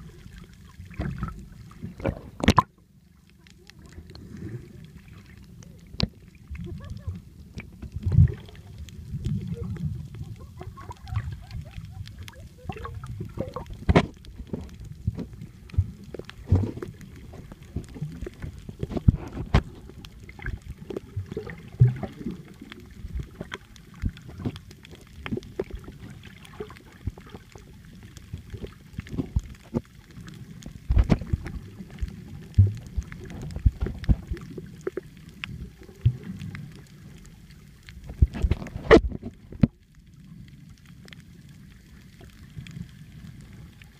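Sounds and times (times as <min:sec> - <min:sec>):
muffled underwater water rumble: 0:00.0 - 0:43.9
underwater bubbles: 0:00.0 - 0:43.9.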